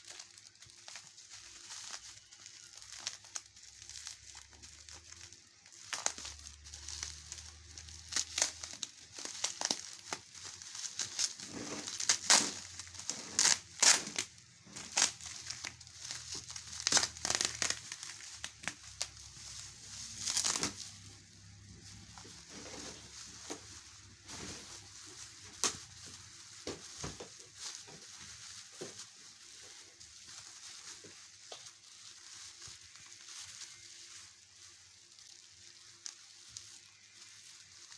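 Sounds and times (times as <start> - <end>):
packaging crinkling: 0.0 - 37.9.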